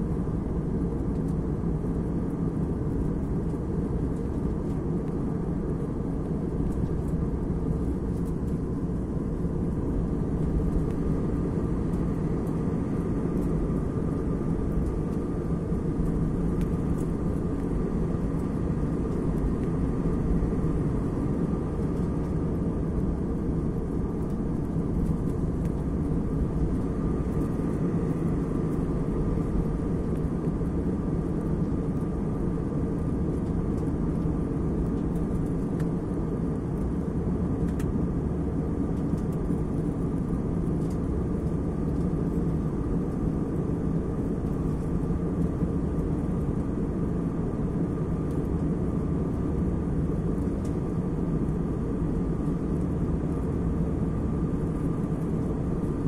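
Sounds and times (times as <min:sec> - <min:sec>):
airliner cabin engine drone: 0:00.0 - 0:56.0
faint steady whine: 0:00.0 - 0:56.0.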